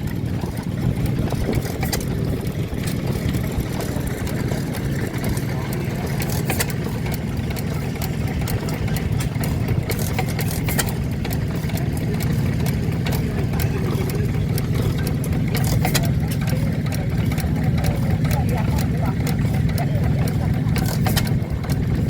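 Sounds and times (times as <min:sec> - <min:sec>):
sharp irregular clicks and knocks: 0:00.0 - 0:22.0
stationary engines droning: 0:00.0 - 0:22.0.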